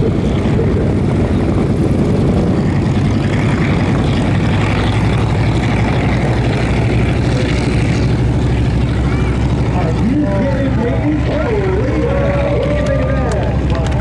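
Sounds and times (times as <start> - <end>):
light plane engine droning: 0.0 - 14.0.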